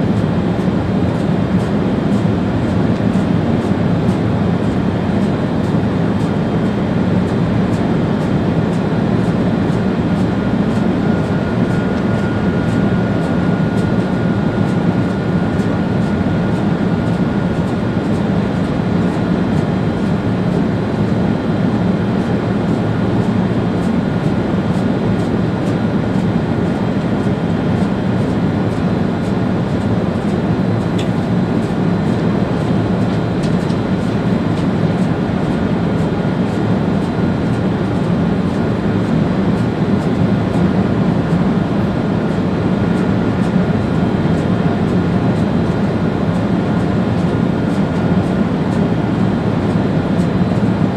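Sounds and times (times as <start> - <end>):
faint steady whine: 0.0 - 50.9
train running rumble: 0.0 - 50.9.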